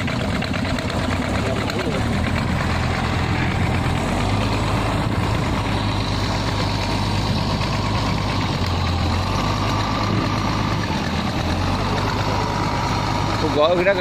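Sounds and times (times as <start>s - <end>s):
boat diesel engine humming: 0.0s - 14.0s.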